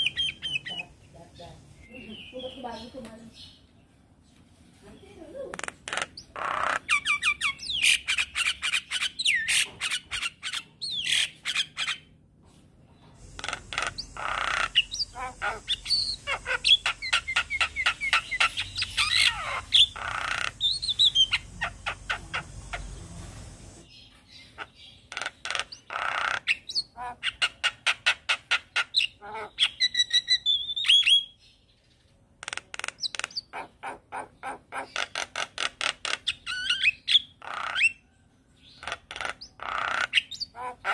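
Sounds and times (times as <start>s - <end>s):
bird chattering and whistling: 0.0s - 1.1s, 5.6s - 12.1s, 13.2s - 23.0s, 23.8s - 31.4s, 32.4s - 40.9s.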